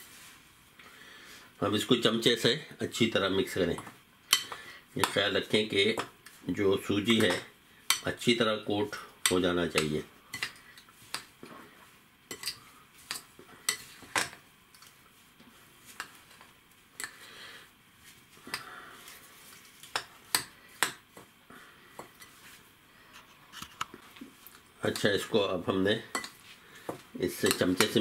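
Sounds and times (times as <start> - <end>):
spoon stirring semolina: 3.7 - 17.4, 18.3 - 28.0.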